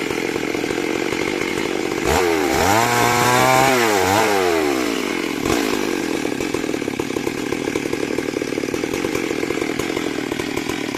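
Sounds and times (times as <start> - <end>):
chainsaw cutting wood: 0.0 - 10.9.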